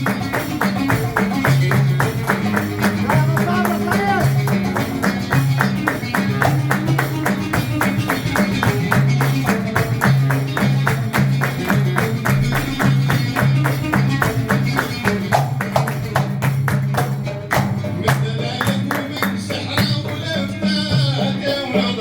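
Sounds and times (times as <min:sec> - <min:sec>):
fast hand-drum strokes: 0:00.0 - 0:22.0
plucked oud: 0:00.0 - 0:22.0.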